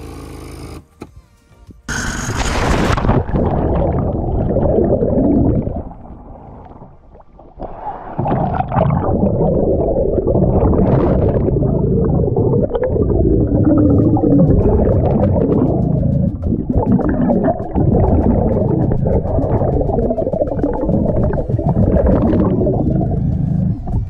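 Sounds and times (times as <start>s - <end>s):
underwater bubbles rumbling and gurgling: 2.4s - 24.0s.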